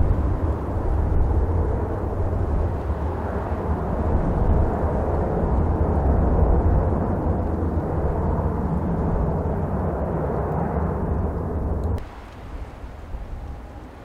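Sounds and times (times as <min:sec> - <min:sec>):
jet engines running: 0:00.0 - 0:14.0
wind on microphone: 0:00.0 - 0:14.0.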